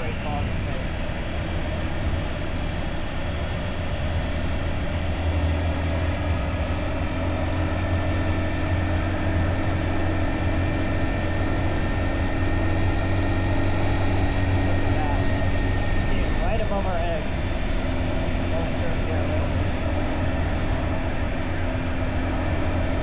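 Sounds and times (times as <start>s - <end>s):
motorbike engine droning: 0.0s - 23.0s.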